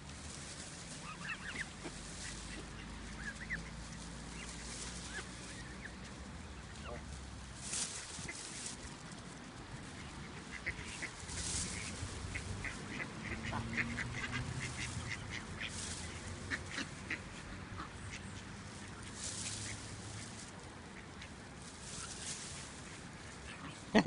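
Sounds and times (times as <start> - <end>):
goslings peeping: 0.0 - 24.0.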